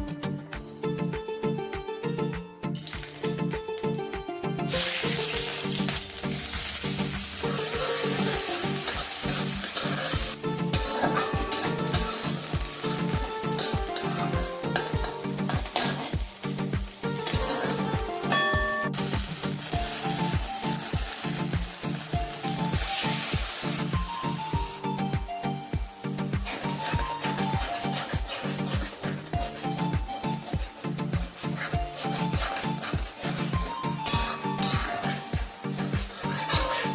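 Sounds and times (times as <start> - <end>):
background music with steady beat: 0.0 - 36.9
food sizzling in hot oil: 2.8 - 4.0, 4.7 - 36.9.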